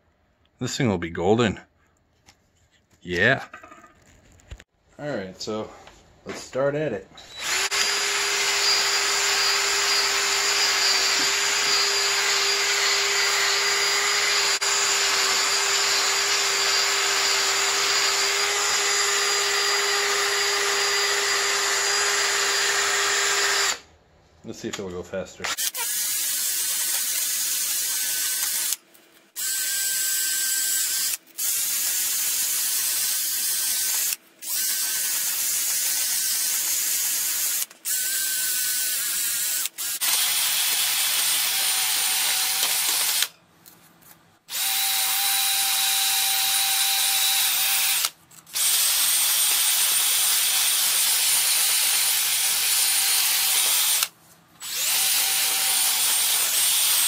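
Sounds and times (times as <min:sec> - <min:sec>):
drill scrubbing rust off metal: 0:07.4 - 0:23.8, 0:25.6 - 0:28.8, 0:29.4 - 0:43.3, 0:44.5 - 0:57.0.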